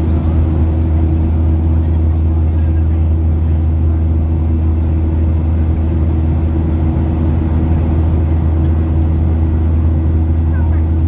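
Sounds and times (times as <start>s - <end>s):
airplane engines droning: 0.0s - 11.0s.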